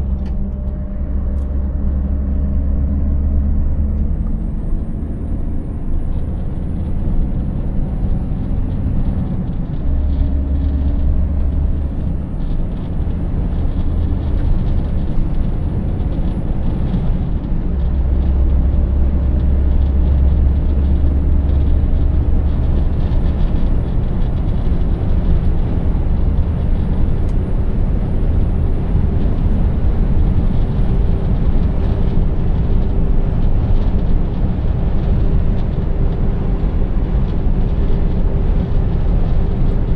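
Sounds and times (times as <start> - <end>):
truck engine running: 0.0 - 39.9
tyre and road noise: 0.0 - 39.9.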